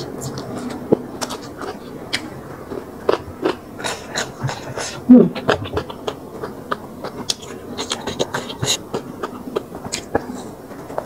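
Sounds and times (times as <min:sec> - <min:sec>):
chewing smacking and slurping: 0:00.0 - 0:11.0.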